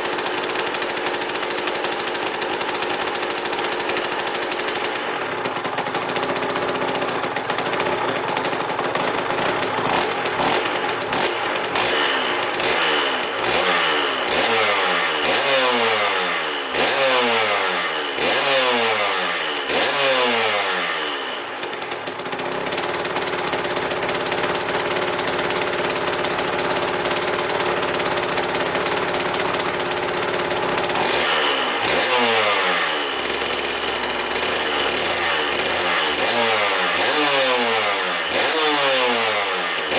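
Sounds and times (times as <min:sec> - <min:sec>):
two-stroke engine revving and idling: 0:00.0 - 0:39.9.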